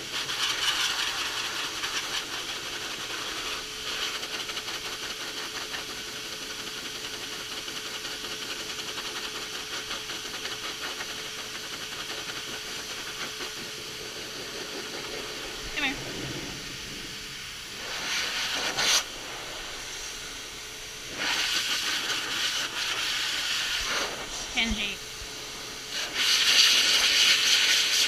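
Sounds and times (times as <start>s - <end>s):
pet dryer blowing air: 0.0s - 28.0s.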